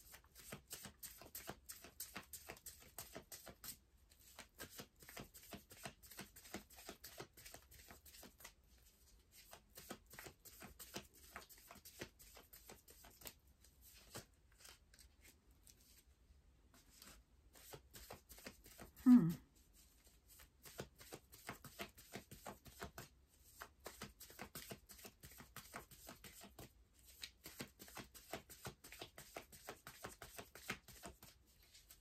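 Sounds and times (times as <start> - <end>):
cards being shuffled: 0.1 - 16.0, 16.7 - 19.0, 19.8 - 32.0.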